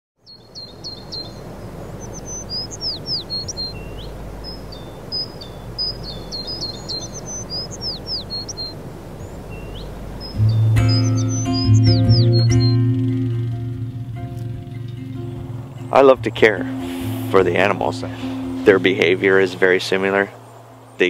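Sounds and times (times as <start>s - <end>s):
low outdoor background noise: 0.2s - 21.0s
songbirds chirping and calling: 0.2s - 21.0s.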